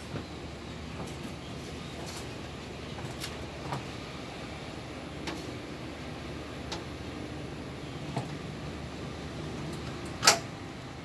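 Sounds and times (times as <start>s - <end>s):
train rumble and hiss: 0.0s - 11.0s.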